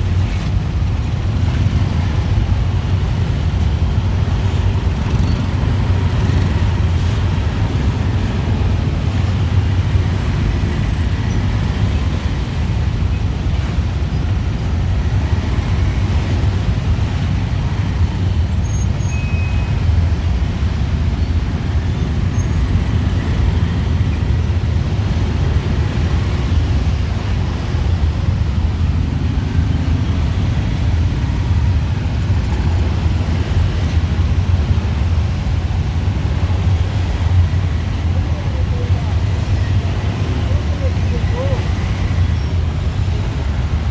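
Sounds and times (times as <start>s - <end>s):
low traffic rumble: 0.0s - 43.9s
motorbikes and cars passing: 0.0s - 43.9s.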